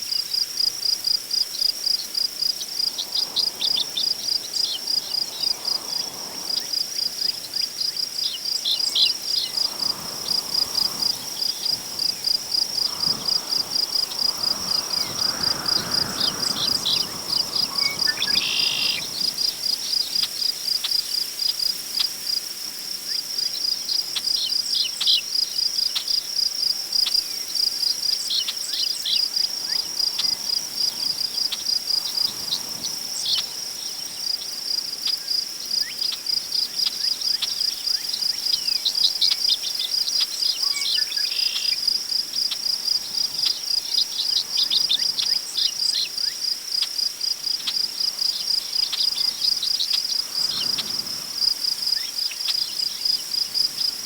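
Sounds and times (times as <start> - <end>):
crickets chirping: 0.0 - 54.0
wind through tall grass: 0.0 - 54.0.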